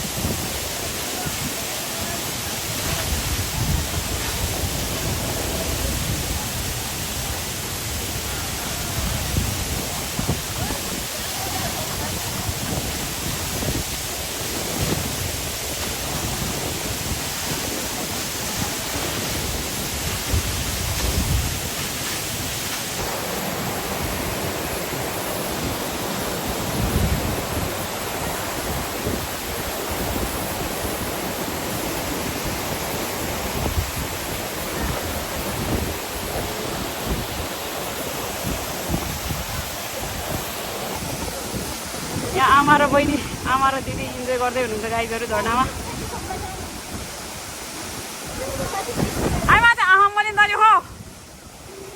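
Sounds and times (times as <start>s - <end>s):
waterfall pouring: 0.0s - 51.9s
wind buffeting microphone: 0.0s - 51.9s.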